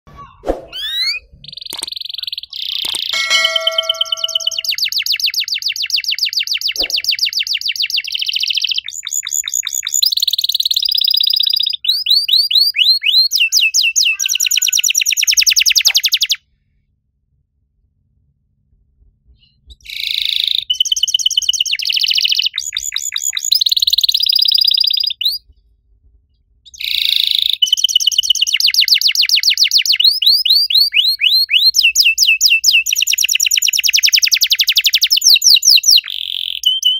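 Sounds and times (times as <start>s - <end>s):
canary singing trills: 0.2s - 16.4s, 19.7s - 25.4s, 26.7s - 36.9s.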